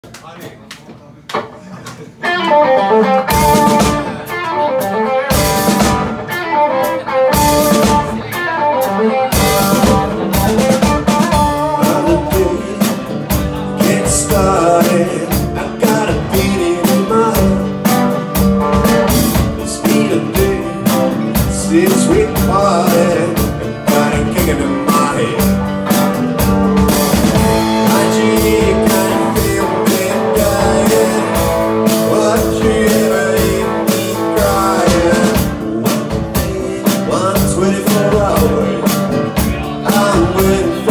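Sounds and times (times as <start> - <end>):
drum kit: 1.3 - 40.9
electric guitar: 2.1 - 40.9
acoustic guitar: 2.2 - 40.9.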